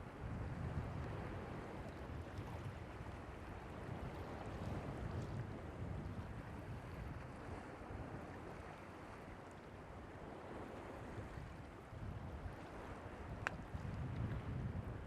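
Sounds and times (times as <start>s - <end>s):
waves breaking on beach: 0.0s - 15.0s
wind on microphone: 0.0s - 15.0s.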